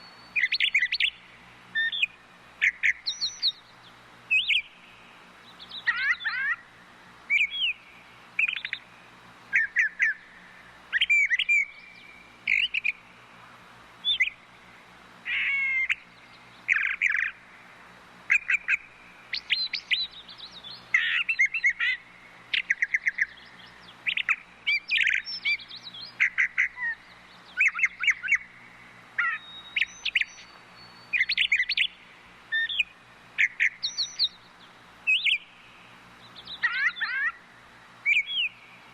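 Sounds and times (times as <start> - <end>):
thrushes singing: 0.0 - 38.9.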